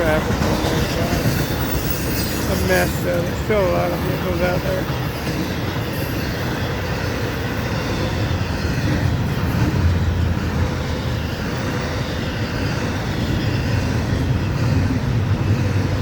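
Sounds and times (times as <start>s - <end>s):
freight train cars rolling past: 0.0s - 16.0s.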